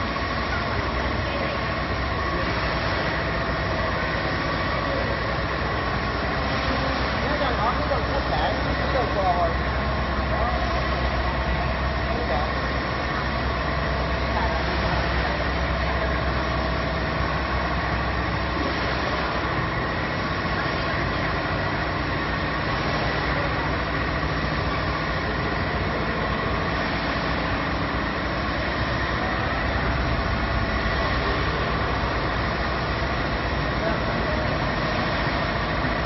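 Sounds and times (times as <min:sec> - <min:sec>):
production line machinery running: 0:00.0 - 0:36.0.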